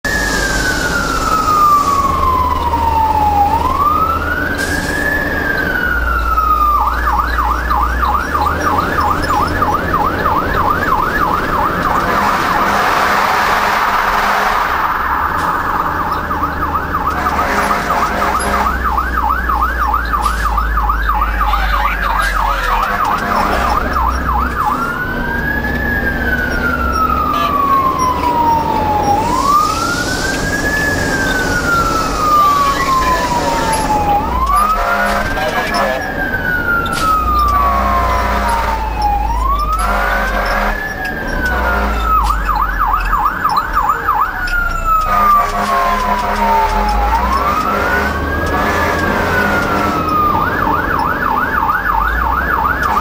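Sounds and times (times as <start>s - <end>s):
diesel engine rumble: 0.0s - 53.0s
fire truck siren: 0.0s - 53.0s.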